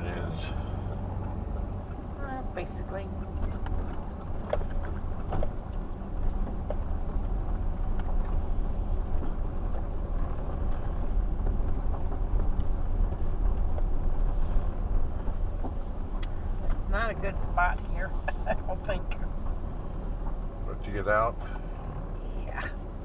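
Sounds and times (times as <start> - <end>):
engine and road rumble: 0.0 - 23.0.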